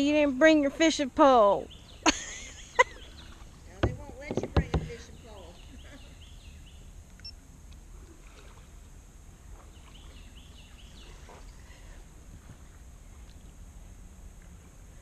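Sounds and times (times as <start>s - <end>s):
wind and handling rumble: 0.0s - 15.0s.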